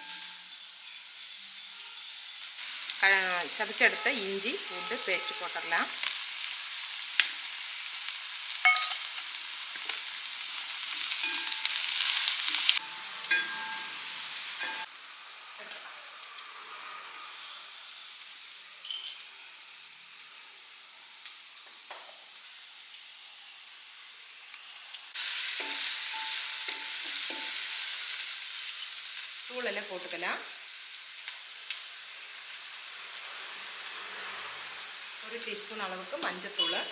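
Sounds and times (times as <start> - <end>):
vegetables sizzling in hot oil: 0.0 - 36.9.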